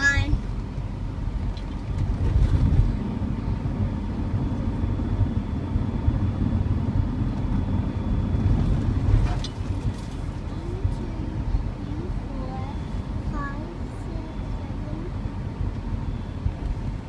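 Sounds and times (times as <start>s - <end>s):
car engine running: 0.0s - 17.0s
road rumble: 0.0s - 17.0s.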